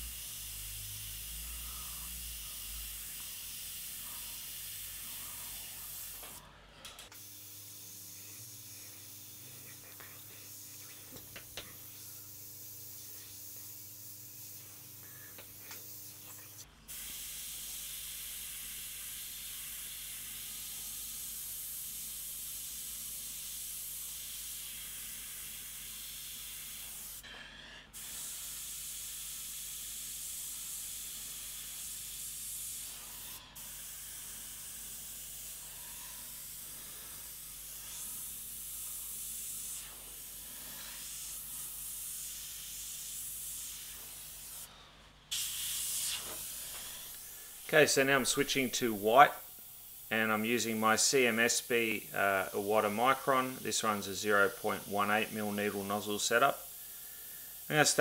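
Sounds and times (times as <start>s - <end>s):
airbrush hissing air: 0.0s - 58.0s.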